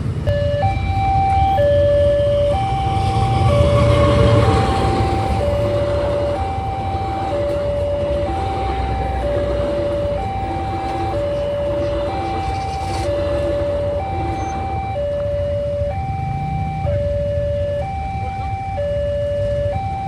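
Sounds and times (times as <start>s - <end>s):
low rumble of vehicles: 0.0s - 20.0s
two-tone warning siren: 0.0s - 20.0s.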